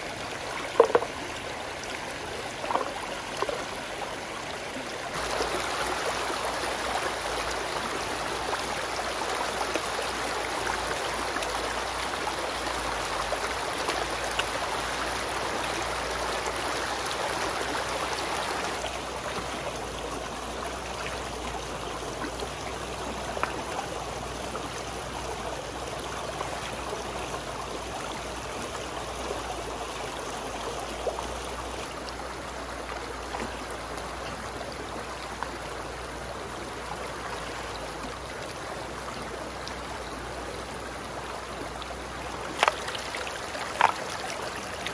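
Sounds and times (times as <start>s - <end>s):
stream running over rocks: 0.0s - 44.9s.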